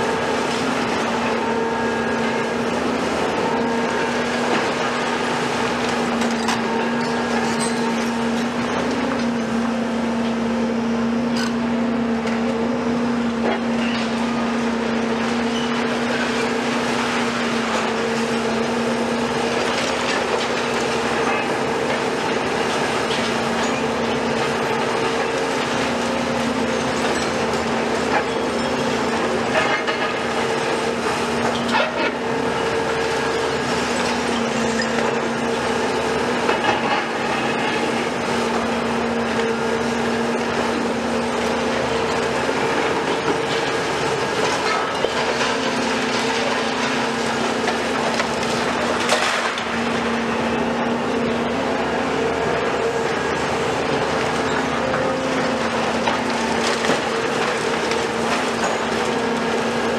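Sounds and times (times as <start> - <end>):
excavator engine and hydraulic drone: 0.0 - 59.9.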